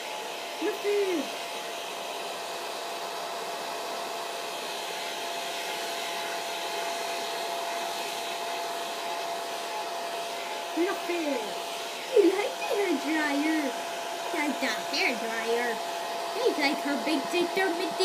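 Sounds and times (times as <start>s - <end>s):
hair dryer blowing air: 0.0s - 18.0s.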